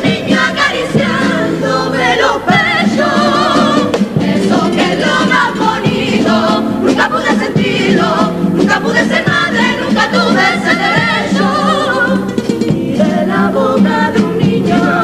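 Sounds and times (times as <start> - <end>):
choir singing in harmony: 0.0 - 15.0
guitars playing: 0.0 - 15.0.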